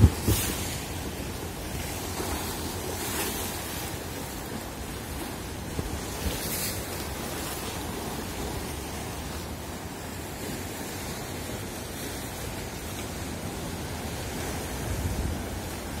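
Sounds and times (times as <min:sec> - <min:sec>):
rough sea waves and surf: 0:00.0 - 0:16.0.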